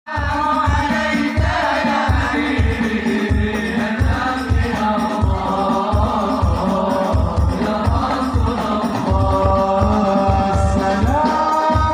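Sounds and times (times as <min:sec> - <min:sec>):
group singing in chorus: 0:00.1 - 0:11.9
low drum beat: 0:00.2 - 0:11.9.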